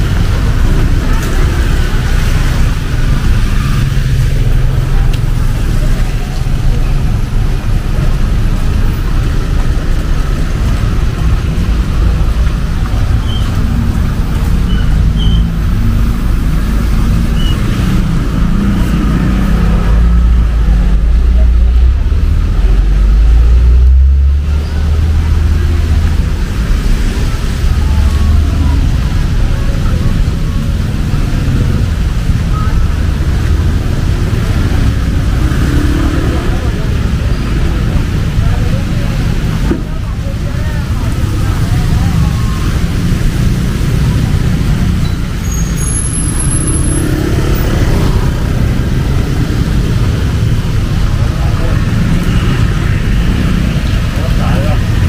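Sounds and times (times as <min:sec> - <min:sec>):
heavy rain falling: 0:00.0 - 0:55.0
traffic on wet road: 0:00.0 - 0:55.0.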